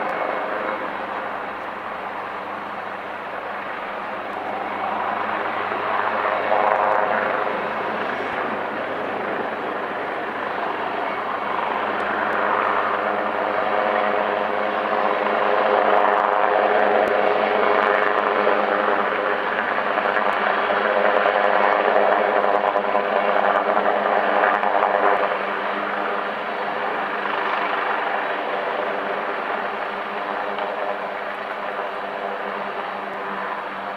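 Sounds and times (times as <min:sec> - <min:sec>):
helicopter drone in flight: 0:00.0 - 0:33.9.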